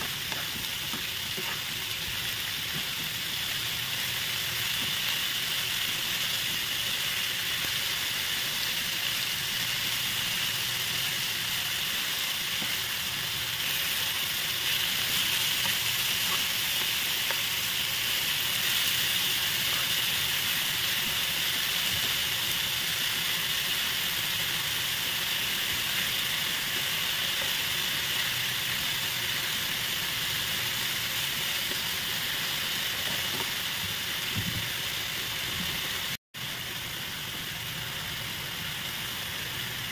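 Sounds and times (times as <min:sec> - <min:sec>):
beef sizzling in a frying pan: 0:00.0 - 0:39.9.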